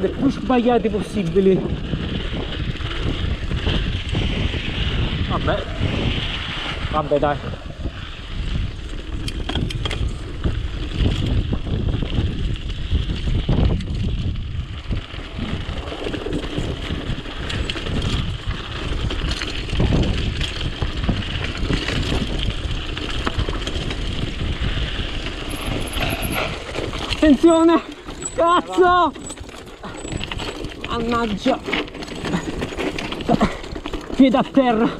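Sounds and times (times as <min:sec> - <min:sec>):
bike clicks and rattles: 0:00.0 - 0:34.9
bike tyre noise on dirt: 0:00.0 - 0:34.9
wind buffeting microphone: 0:00.0 - 0:34.9.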